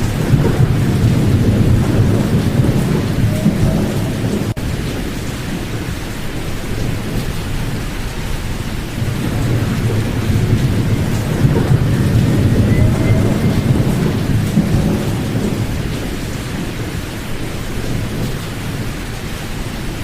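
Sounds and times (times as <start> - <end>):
low filtered pink noise: 0.0 - 20.0.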